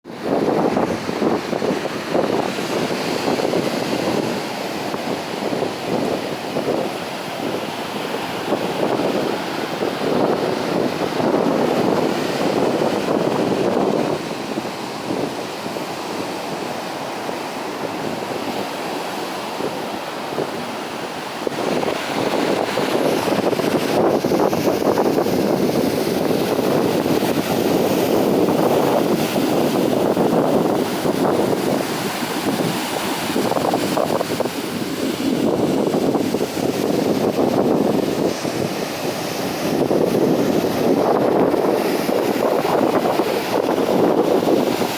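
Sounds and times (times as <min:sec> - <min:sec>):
wind buffeting microphone: 0:00.0 - 0:44.9
sea waves washing: 0:00.1 - 0:44.9.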